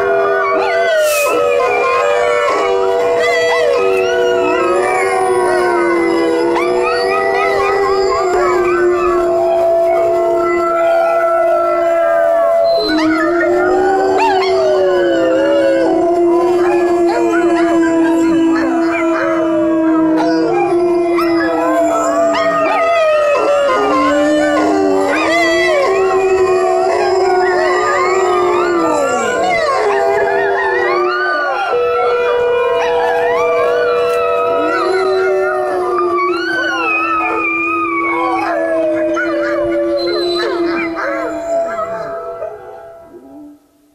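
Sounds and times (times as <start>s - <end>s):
dogs howling: 0.0s - 43.9s.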